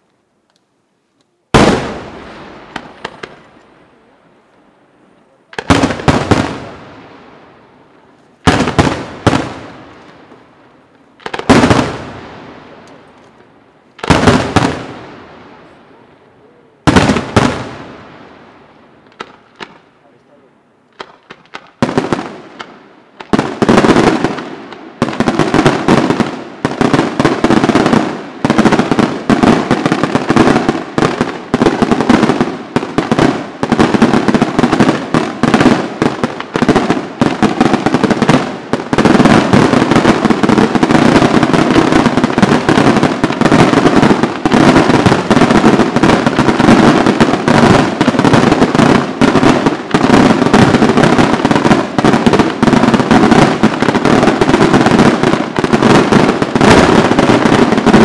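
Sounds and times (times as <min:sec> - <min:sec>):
fireworks bursts: 0:01.4 - 0:58.0.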